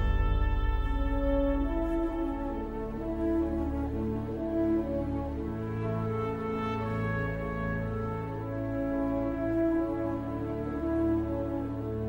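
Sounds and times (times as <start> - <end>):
slow background music: 0.0 - 12.0.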